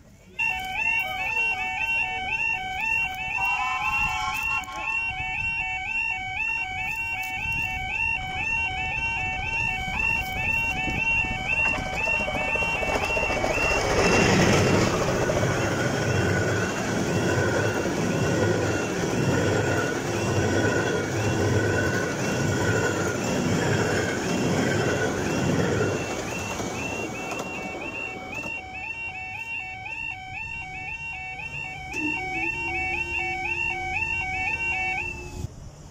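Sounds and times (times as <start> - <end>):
steam train passing: 0.0 - 35.9
level crossing alarm warbling: 0.3 - 35.5.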